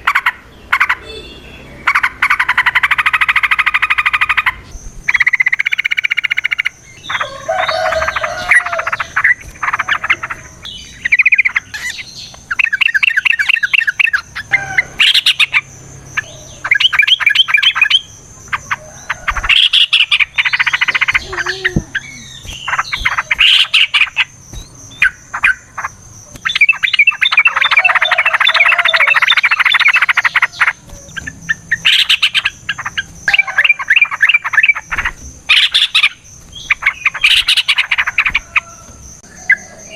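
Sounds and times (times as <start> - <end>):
bulbuls singing chattering trills: 0.0 - 39.9.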